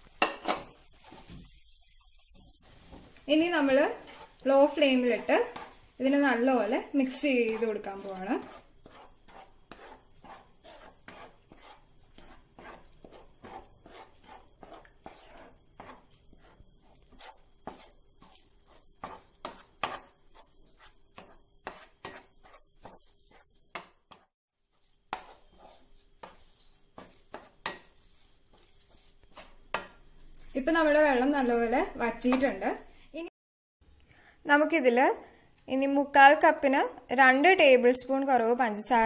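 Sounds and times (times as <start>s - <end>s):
spatula scraping frying pan: 0.0s - 32.9s.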